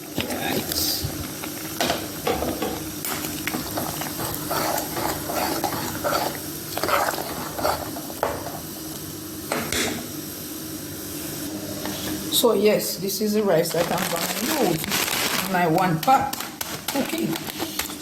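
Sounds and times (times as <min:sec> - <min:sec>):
pot boiling while stirred: 0:00.0 - 0:18.0.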